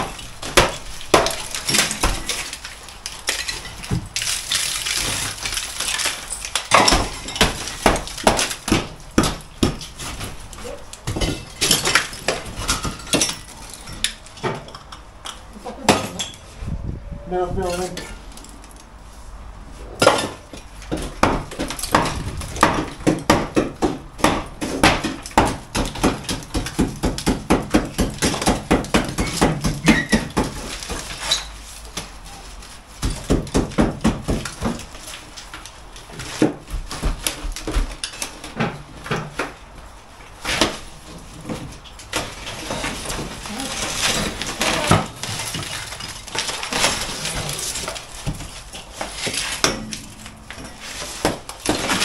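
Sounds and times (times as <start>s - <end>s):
broken concrete clattering: 0.0s - 16.4s, 20.0s - 39.6s, 40.4s - 52.0s.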